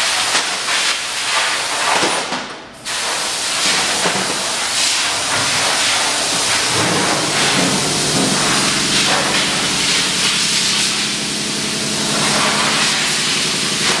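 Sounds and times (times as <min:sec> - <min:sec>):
loud steady hiss: 0:00.0 - 0:02.1, 0:02.8 - 0:14.0
machine hum: 0:02.6 - 0:14.0.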